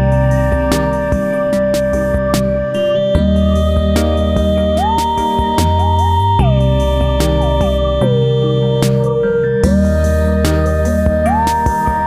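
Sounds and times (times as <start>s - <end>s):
steady bass notes: 0.0s - 12.0s
synthesizer melody gliding: 0.0s - 12.0s.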